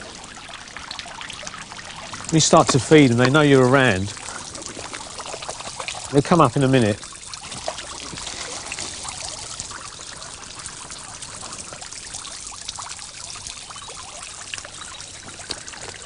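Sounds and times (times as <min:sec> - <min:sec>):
fountain water trickling and splashing: 0:00.0 - 0:16.0.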